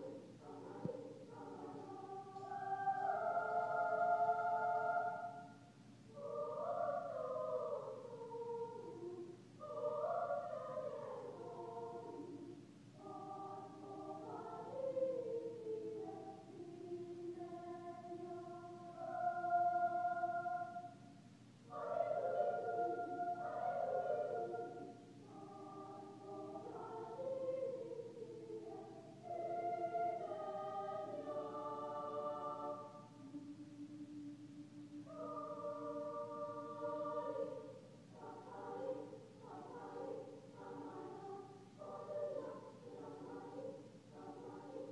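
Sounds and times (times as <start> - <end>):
choir singing in harmony: 0.0 - 44.9.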